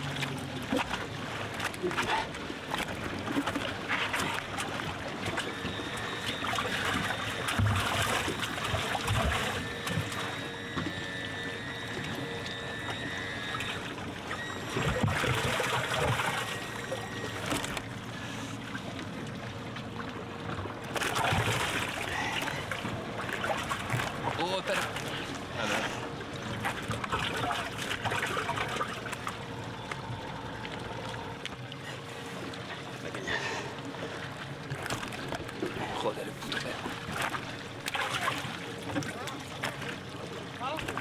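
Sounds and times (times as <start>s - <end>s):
water trickling and splashing: 0.0s - 41.0s.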